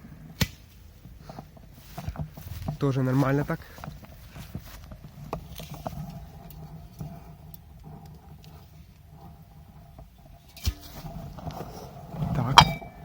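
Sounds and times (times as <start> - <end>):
faint rustling: 0.2 - 13.0.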